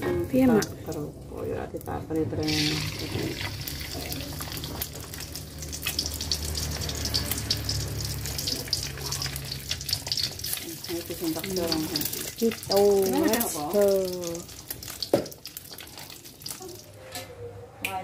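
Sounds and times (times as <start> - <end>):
egg frying in hot oil: 0.4 - 17.0.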